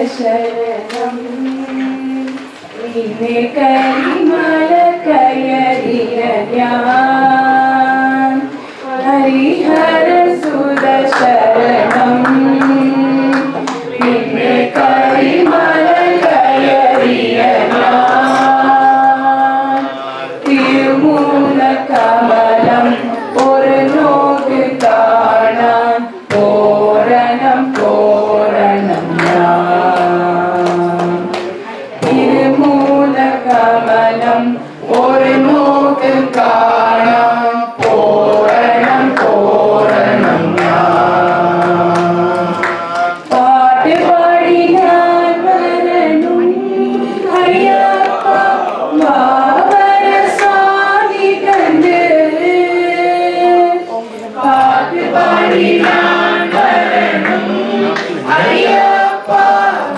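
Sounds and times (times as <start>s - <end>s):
group singing devotional song: 0.0s - 59.9s.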